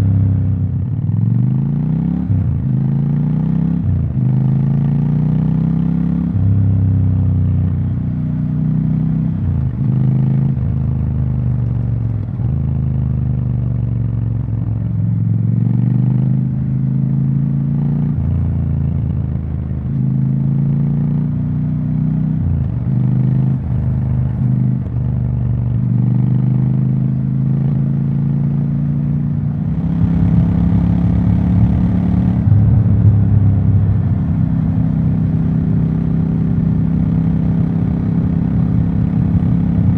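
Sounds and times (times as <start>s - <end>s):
motorcycle engine and exhaust running: 0.0s - 39.9s.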